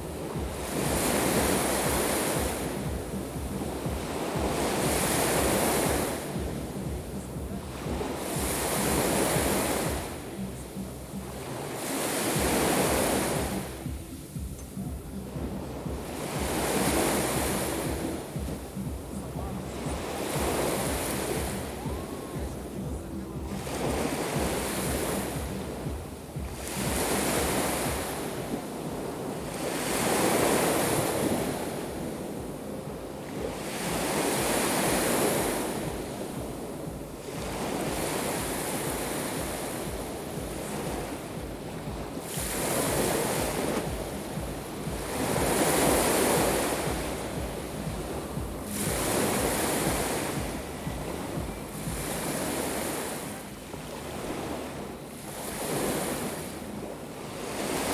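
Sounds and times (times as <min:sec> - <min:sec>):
surf washing onto shore: 0:00.0 - 0:57.9
wind rumbling on microphone: 0:00.0 - 0:57.9.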